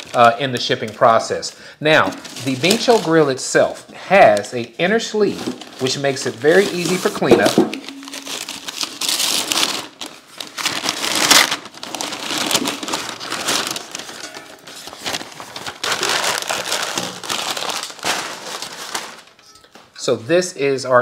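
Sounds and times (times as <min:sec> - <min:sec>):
packing paper crinkling: 0:00.0 - 0:19.5.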